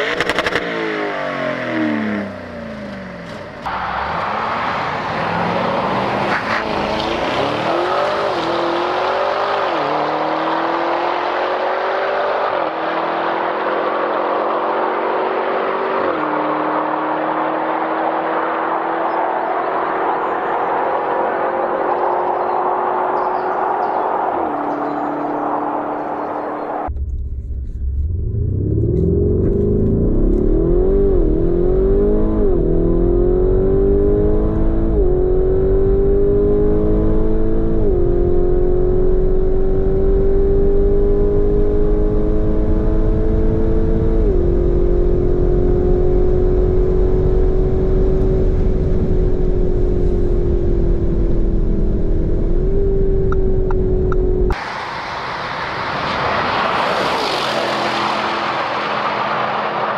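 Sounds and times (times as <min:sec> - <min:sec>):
car engine accelerating: 0:00.0 - 0:59.9
motorway traffic rushing: 0:00.0 - 0:59.9.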